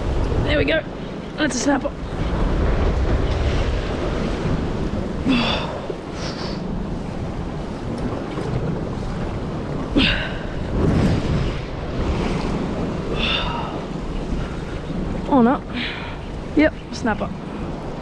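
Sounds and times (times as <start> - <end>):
surf washing against rocks: 0.0 - 18.0
wind buffeting microphone: 0.0 - 18.0.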